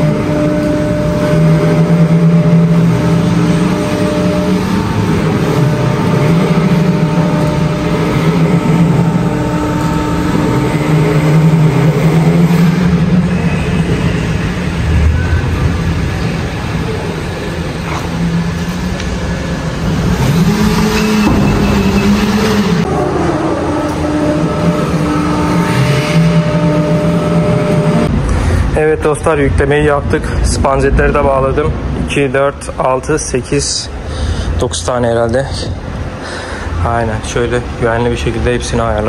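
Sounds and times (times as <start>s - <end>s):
vehicle engine running: 0.0s - 32.3s.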